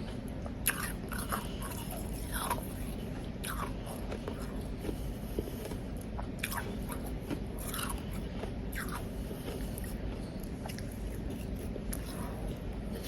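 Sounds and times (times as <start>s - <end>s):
chewing and crunching ice: 0.0s - 13.0s.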